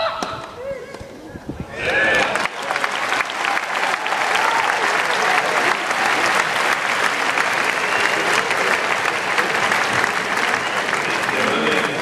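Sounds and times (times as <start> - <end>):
crowd clapping: 1.8 - 12.0.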